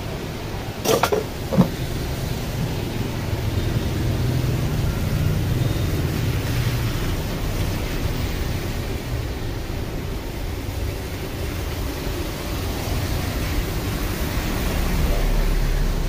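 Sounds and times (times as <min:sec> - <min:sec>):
rain hiss: 0:01.8 - 0:16.0.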